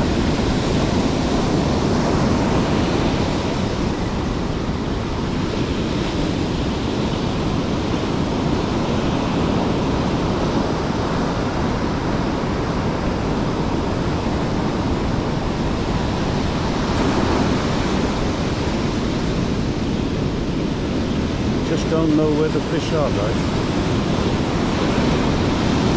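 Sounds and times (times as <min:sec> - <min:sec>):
waves breaking on shore: 0:00.0 - 0:25.9
wind rumble on microphone: 0:00.0 - 0:25.9.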